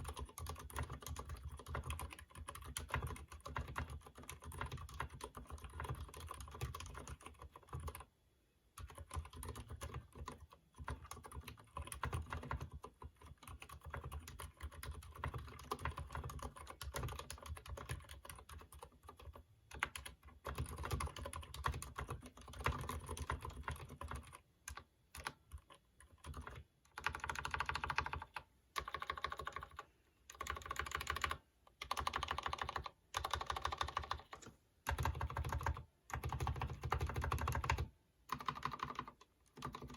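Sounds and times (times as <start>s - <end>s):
long keyboard keys pressed: 0.0s - 8.0s, 8.8s - 39.9s
soft keyboard typing: 0.0s - 39.9s.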